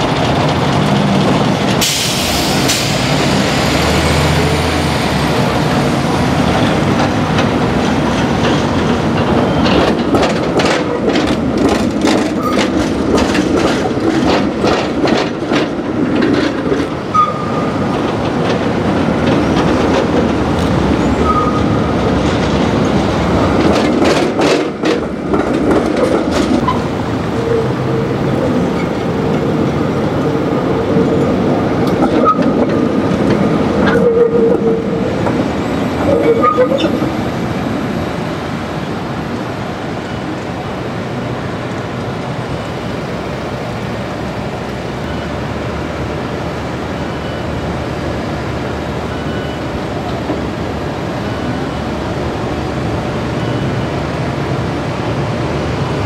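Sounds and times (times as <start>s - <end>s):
tram rumble: 0.0s - 56.0s
tram wheels clicking over rail joints: 0.0s - 56.0s.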